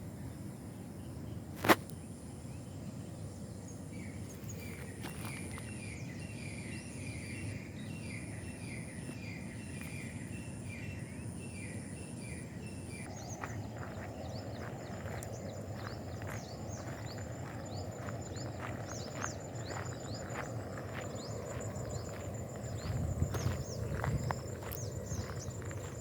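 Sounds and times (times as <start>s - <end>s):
sharp bird chirps: 1.2s - 26.0s.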